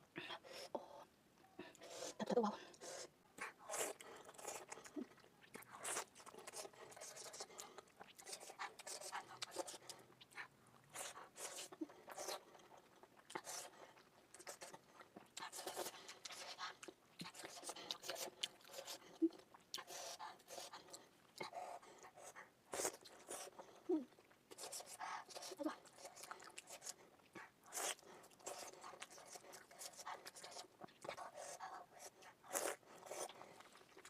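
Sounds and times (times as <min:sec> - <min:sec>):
wet chewing and lip smacks: 0:02.8 - 0:34.0.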